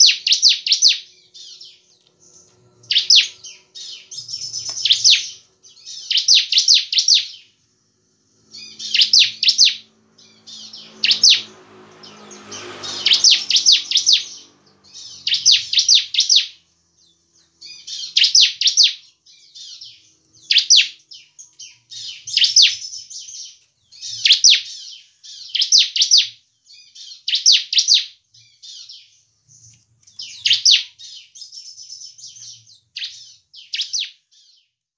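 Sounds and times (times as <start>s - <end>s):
bird singing sharp high notes: 0.0s - 7.6s, 8.3s - 29.2s.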